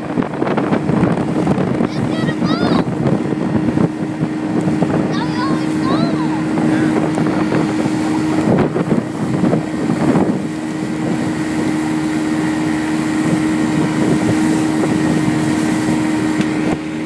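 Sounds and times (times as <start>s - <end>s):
motorboat engine drone: 0.0s - 17.0s
wind buffeting microphone: 0.0s - 17.0s.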